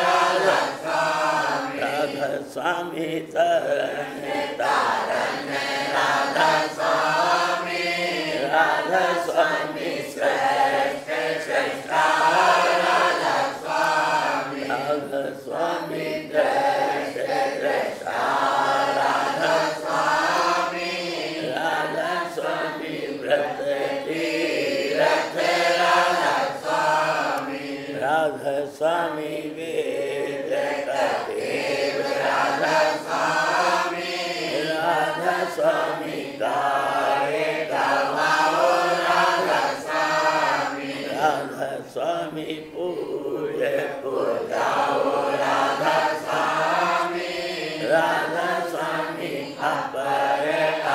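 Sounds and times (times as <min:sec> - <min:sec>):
group chanting a hymn: 0:00.0 - 0:50.9.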